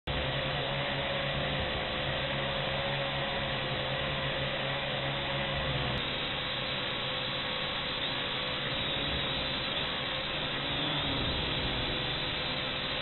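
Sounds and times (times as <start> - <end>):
quadcopter motors whining: 0.1 - 13.0.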